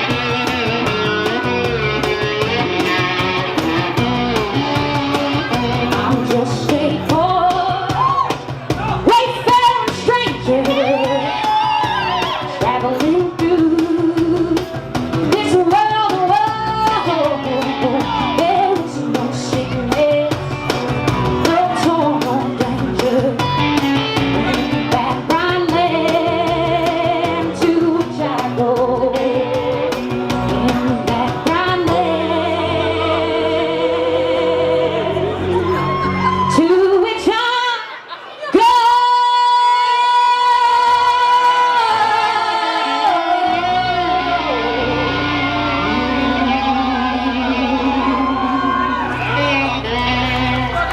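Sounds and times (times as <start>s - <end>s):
guitar accompaniment: 0.0s - 37.3s, 39.0s - 50.9s
person singing: 4.0s - 37.6s, 38.6s - 50.9s.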